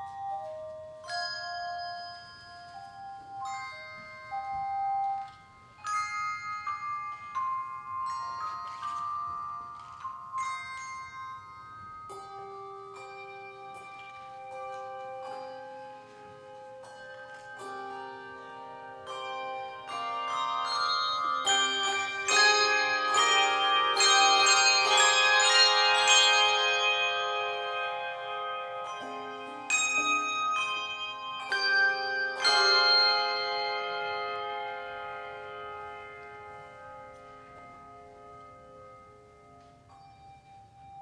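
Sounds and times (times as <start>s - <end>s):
handbell choir playing: 0.0s - 41.0s.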